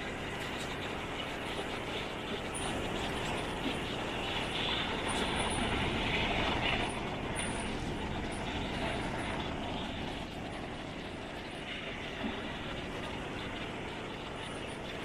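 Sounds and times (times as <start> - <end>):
train rolling on track: 0.0 - 15.0.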